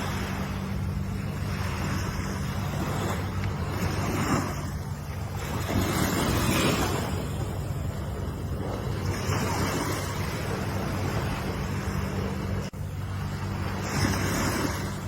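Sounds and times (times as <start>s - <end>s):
waves washing onto shore: 0.0s - 15.0s.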